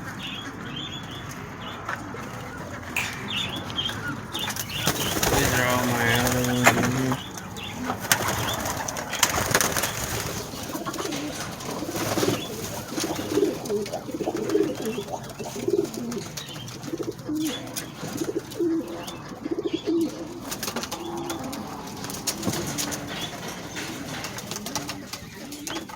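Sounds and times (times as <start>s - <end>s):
pigeons cooing: 0.0s - 25.9s
clicks and rustling: 1.3s - 19.4s, 20.0s - 25.9s.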